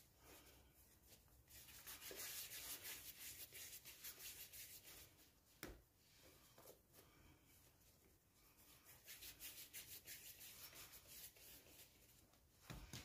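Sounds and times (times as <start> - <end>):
hands rubbing dough: 0.0 - 13.0.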